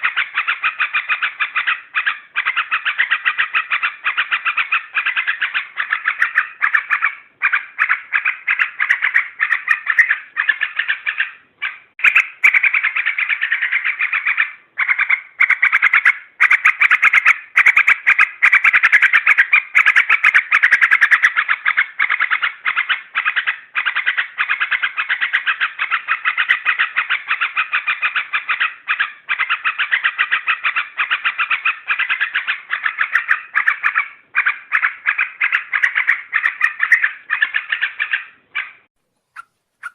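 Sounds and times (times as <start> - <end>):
bulbul chattering call: 0.0 - 39.9.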